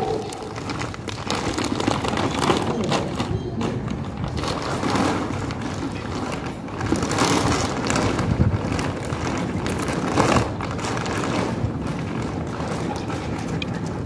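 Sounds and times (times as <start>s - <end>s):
dry dog food rattling onto concrete: 0.0s - 14.0s
plastic bag rustling: 0.0s - 14.0s.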